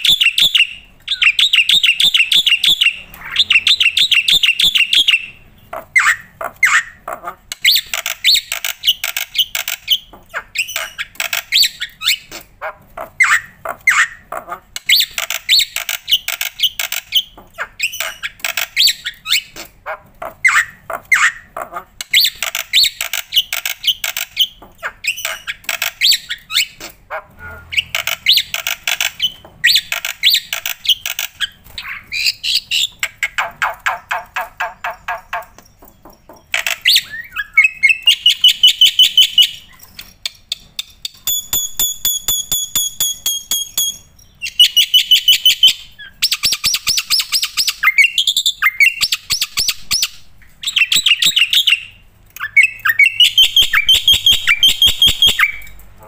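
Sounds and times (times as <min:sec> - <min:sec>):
starling singing: 0:00.0 - 0:39.9, 0:41.3 - 0:55.8.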